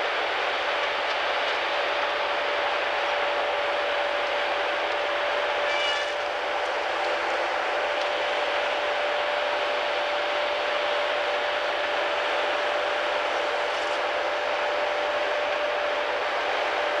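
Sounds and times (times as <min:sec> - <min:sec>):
constant machine whine: 0:00.0 - 0:17.0
heavy machine running: 0:00.0 - 0:17.0.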